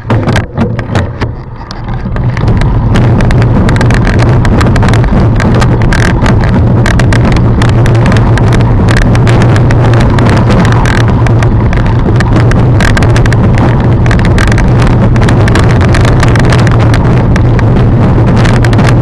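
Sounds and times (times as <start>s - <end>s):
mountain bike rumbling and rattling: 0.0s - 19.0s.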